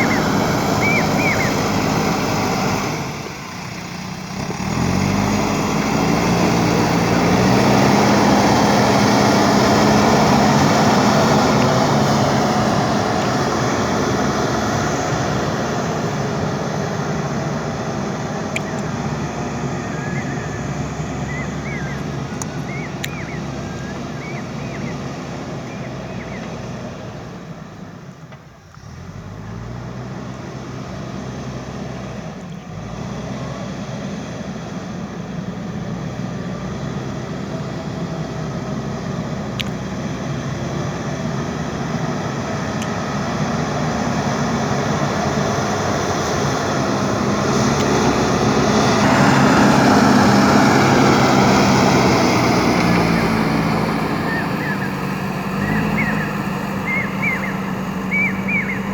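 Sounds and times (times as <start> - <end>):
backhoe diesel engine under load: 0.0 - 58.9.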